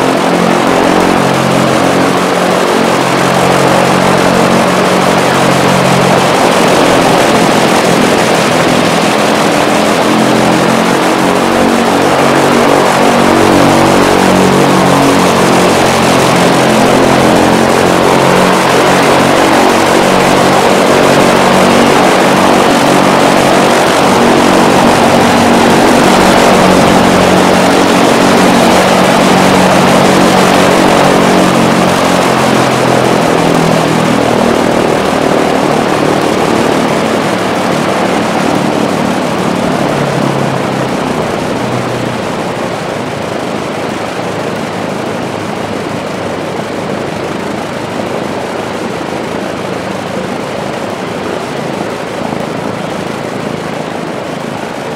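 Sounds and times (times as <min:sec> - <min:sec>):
aircraft engines running: 0:00.0 - 0:54.9.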